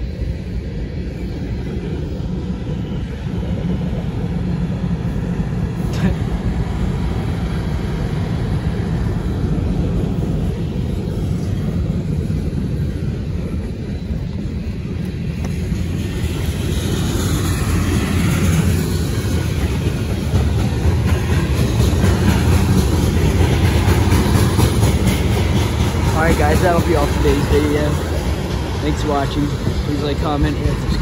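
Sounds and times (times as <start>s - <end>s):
freight train rumbling on rails: 0.0s - 31.0s.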